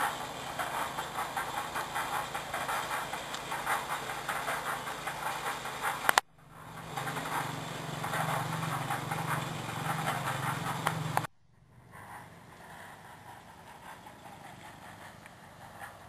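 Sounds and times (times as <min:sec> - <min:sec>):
small engine running: 0:00.0 - 0:11.3, 0:11.9 - 0:16.0
steady low hum: 0:00.0 - 0:16.0.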